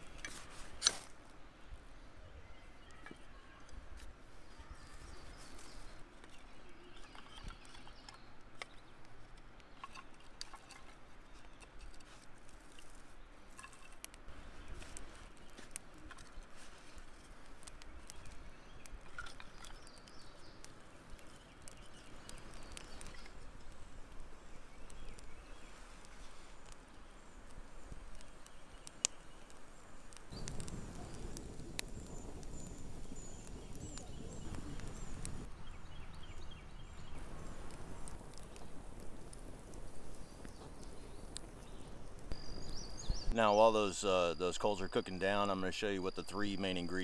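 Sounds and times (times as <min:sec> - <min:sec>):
small wood fire crackling: 0:00.0 - 0:47.0.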